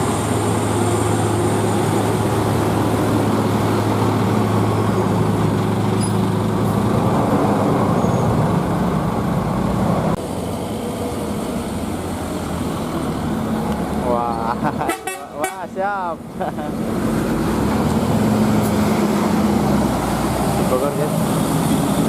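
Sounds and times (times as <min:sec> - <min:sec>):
heavy vehicle engine humming: 0:00.0 - 0:22.0
road noise: 0:00.0 - 0:22.0.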